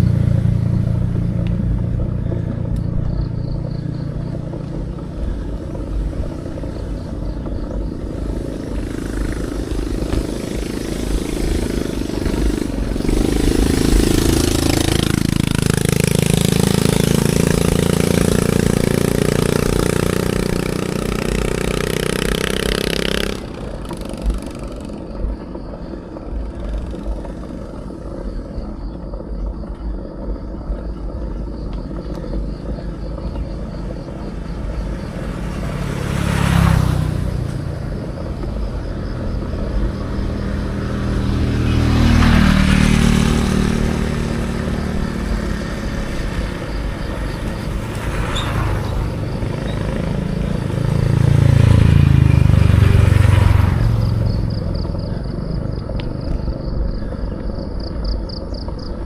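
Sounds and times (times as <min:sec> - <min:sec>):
vehicle engine running: 0:00.0 - 0:59.0
vehicle passing: 0:00.0 - 0:59.0
wind rumbling on microphone: 0:00.0 - 0:59.0.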